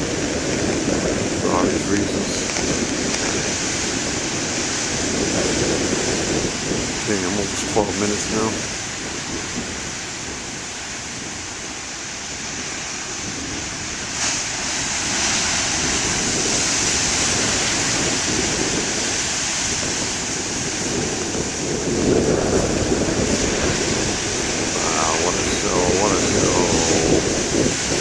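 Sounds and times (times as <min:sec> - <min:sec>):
ocean surf breaking: 0:00.0 - 0:28.0
wind buffeting microphone: 0:00.0 - 0:28.0.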